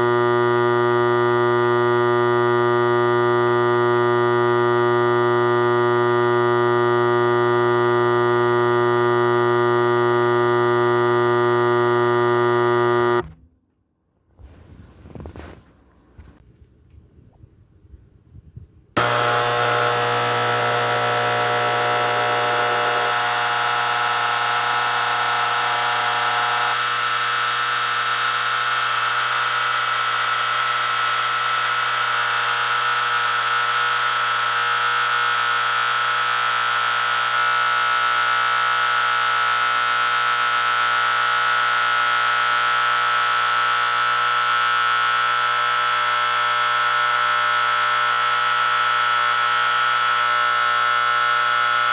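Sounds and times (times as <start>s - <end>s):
fire alarm horn steady tone: 0.0s - 13.3s, 19.0s - 51.9s.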